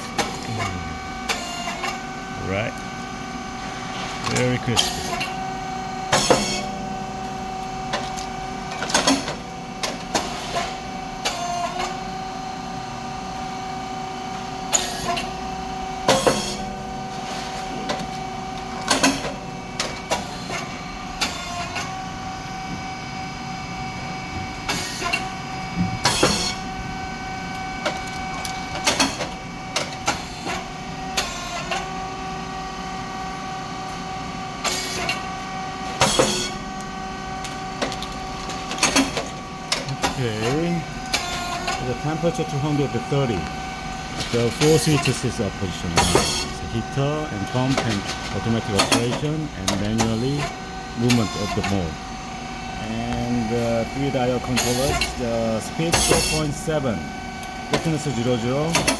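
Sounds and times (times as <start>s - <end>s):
machine motor and pump hum: 0.0s - 58.9s.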